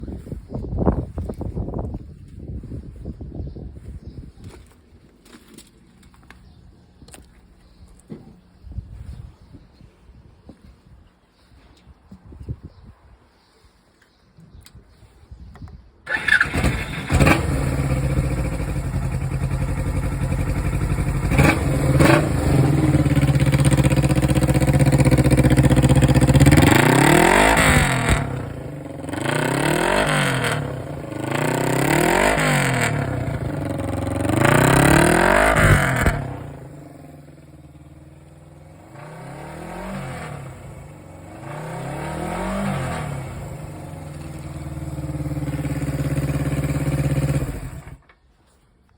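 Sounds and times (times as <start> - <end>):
motorcycle engine idling and revving: 0.0 - 9.2, 16.1 - 48.4.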